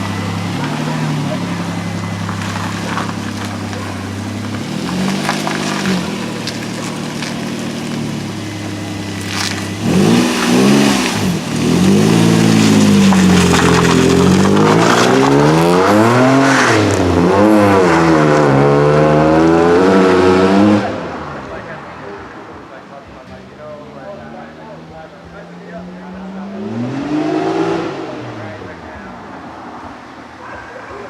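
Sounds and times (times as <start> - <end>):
car exhaust idling and revving: 0.0 - 31.0.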